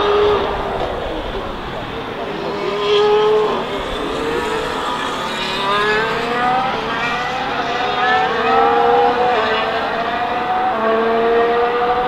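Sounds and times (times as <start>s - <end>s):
distant race car accelerating: 0.0s - 12.0s.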